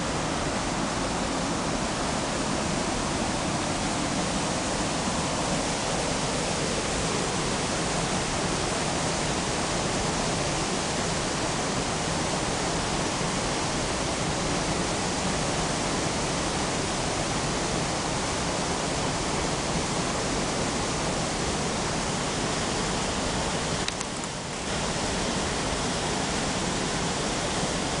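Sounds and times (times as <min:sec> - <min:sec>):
waterfall roar: 0:00.0 - 0:28.0.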